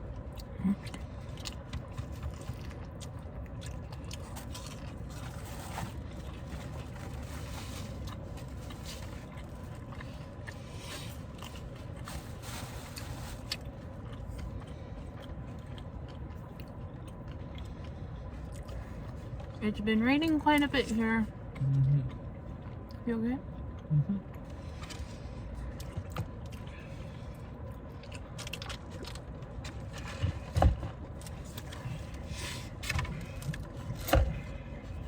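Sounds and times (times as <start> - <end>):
chewing crunchy food: 0.0 - 19.6, 20.2 - 35.0
faint background hum: 0.0 - 35.0.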